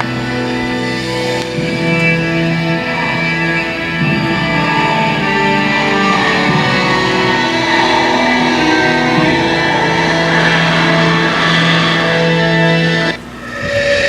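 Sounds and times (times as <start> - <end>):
music with sustained notes: 0.0 - 14.0.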